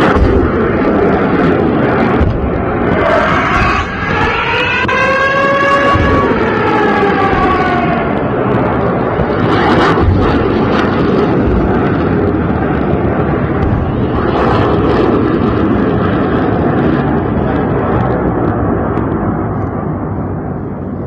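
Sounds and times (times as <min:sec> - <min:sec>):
sharp booms: 0:00.0 - 0:19.4
missiles launching with dense roar: 0:00.0 - 0:21.0.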